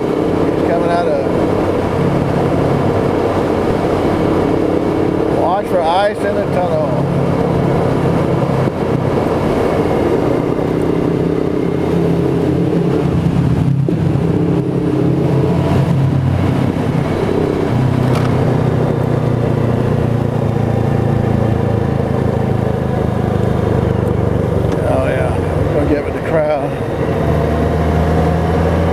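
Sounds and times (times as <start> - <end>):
motorcycle engine running: 0.0 - 28.9
road and wind noise: 0.0 - 28.9.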